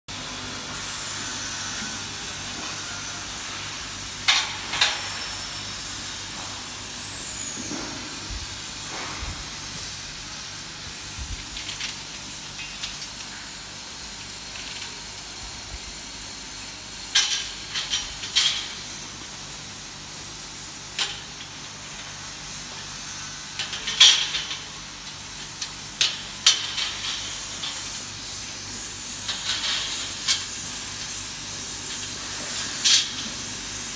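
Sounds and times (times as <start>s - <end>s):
welding hiss: 0.1s - 33.9s.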